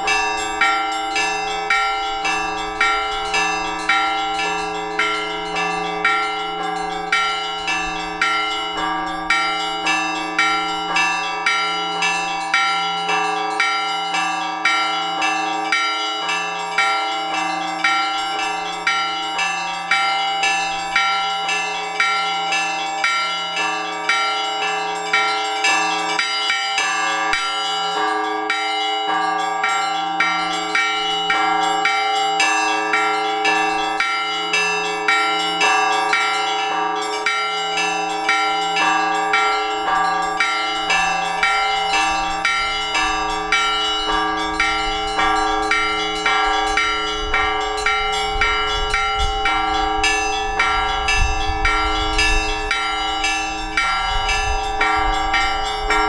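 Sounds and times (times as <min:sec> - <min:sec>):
large bells humming: 0:00.0 - 0:56.0
small bells pealing: 0:00.0 - 0:56.0.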